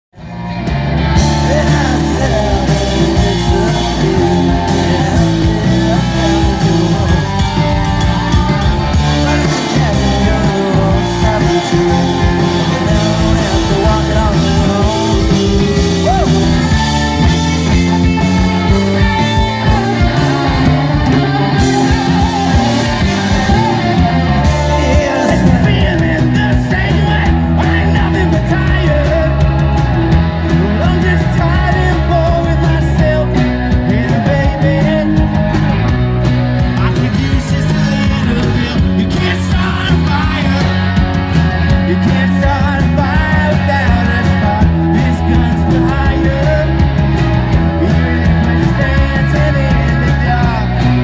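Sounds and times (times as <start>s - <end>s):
drums: 0.1s - 51.0s
electric guitars: 0.2s - 51.0s
person singing: 1.0s - 36.0s, 36.6s - 51.0s.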